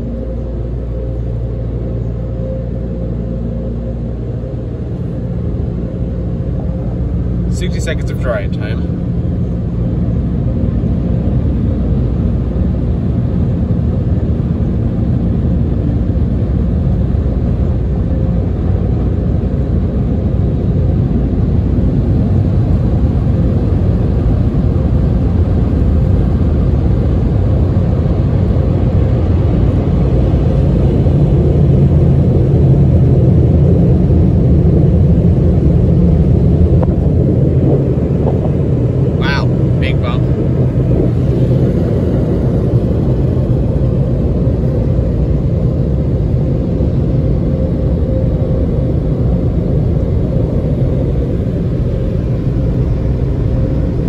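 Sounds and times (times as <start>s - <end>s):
car wash blowers rushing air: 0.0s - 54.0s.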